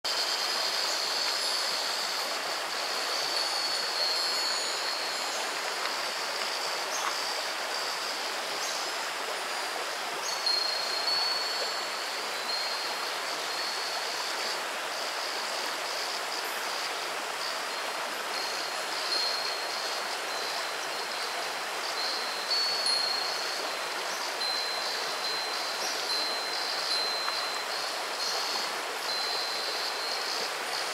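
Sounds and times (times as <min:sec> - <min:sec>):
river babbling over pebbles: 0:00.1 - 0:30.9.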